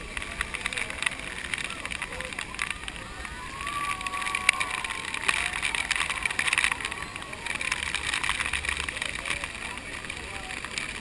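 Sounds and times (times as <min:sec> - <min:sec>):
water drops crackling on camera: 0:00.0 - 0:11.0
waterfall spray rushing: 0:01.0 - 0:10.9.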